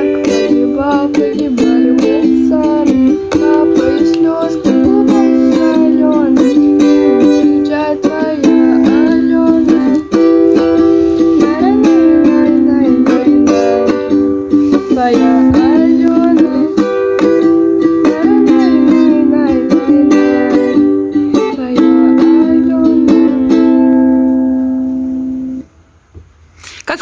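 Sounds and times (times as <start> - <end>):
person singing: 0.0 - 24.3
ukulele strumming chords: 0.0 - 26.0.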